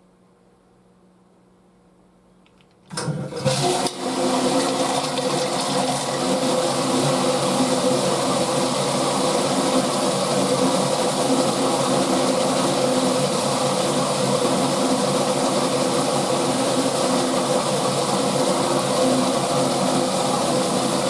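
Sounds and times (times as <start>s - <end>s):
washing machine running: 2.9s - 21.0s.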